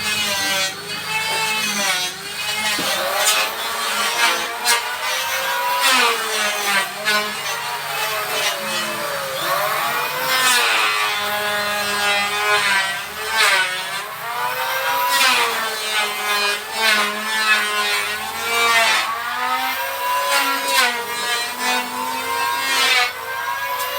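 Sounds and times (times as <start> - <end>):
power tool motor whining: 0.0 - 23.9
saw rasping through wood: 0.0 - 23.9.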